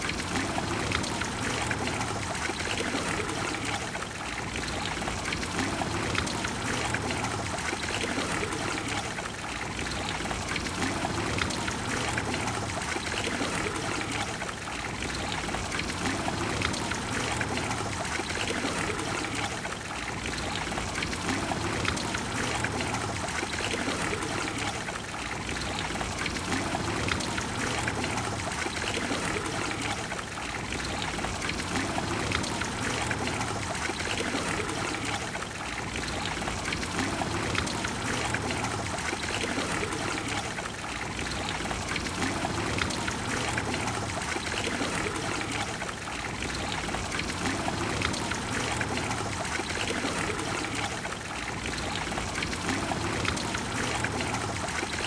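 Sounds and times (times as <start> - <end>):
fountain water splashing: 0.0 - 55.0.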